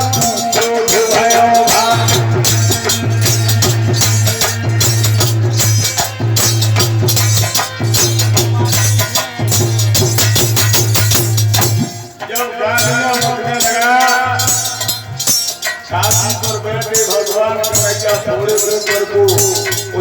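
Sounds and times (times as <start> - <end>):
drum rhythm: 0.0 - 20.0
shaker-like percussion: 0.0 - 20.0.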